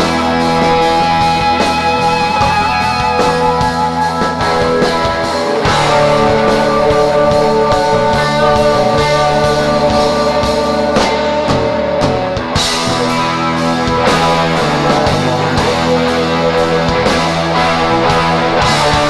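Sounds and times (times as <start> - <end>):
rock band playing live: 0.0 - 19.0
sustained electric guitar notes: 0.0 - 19.0.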